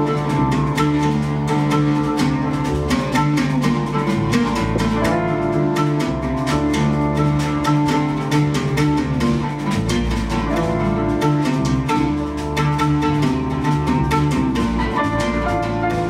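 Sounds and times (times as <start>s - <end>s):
held low instrument notes: 0.0s - 16.0s
oud plucked: 0.0s - 16.0s.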